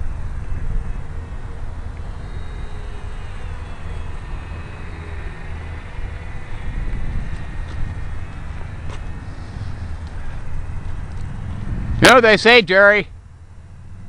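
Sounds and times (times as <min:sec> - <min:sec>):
model airplane motor whine: 0:00.0 - 0:14.0
wind buffeting microphone: 0:00.0 - 0:14.0.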